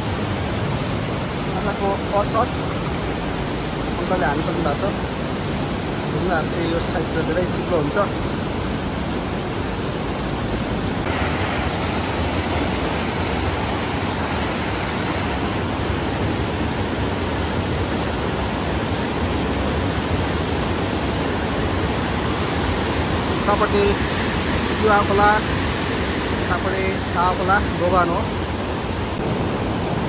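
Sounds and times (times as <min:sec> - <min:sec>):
river rapids rushing over boulders: 0:00.0 - 0:30.0.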